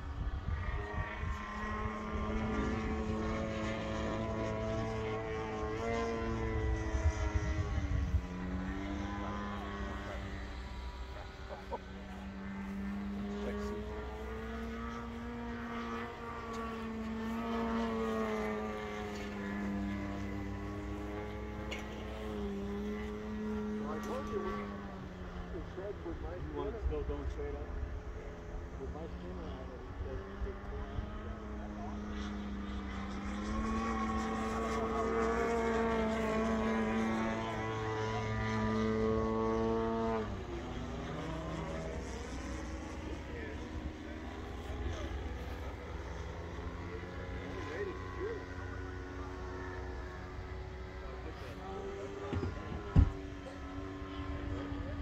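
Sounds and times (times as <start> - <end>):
model airplane propeller drone: 0.0 - 55.0.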